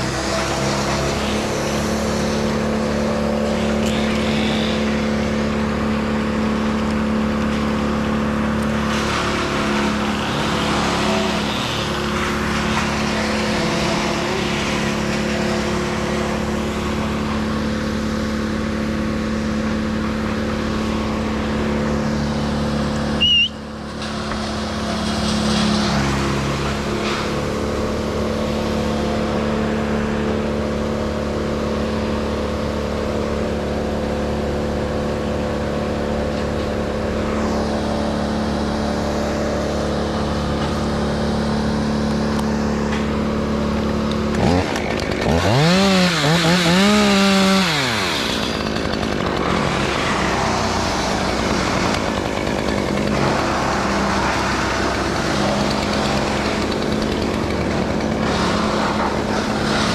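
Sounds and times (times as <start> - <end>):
engine running at high speed: 0.0 - 59.9.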